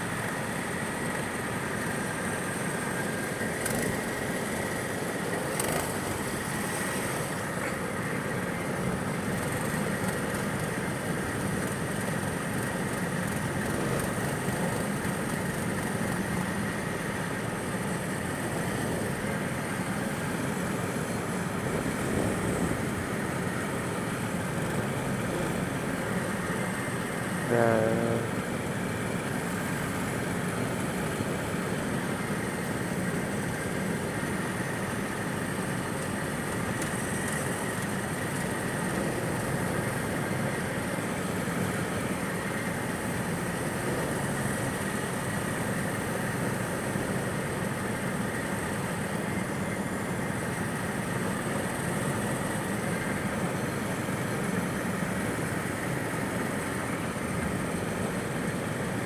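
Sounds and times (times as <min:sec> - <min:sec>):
go-kart engines droning: 0:00.0 - 0:59.0.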